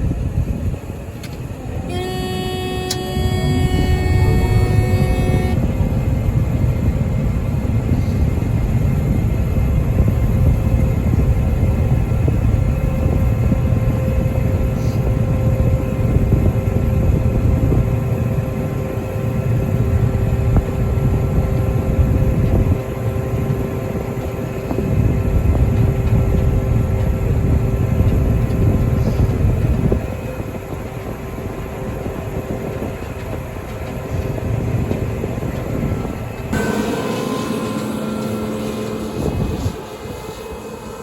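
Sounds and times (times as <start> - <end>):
combine harvester machinery hum: 0.0 - 41.0
wind buffeting microphone: 3.4 - 36.8, 38.0 - 41.0.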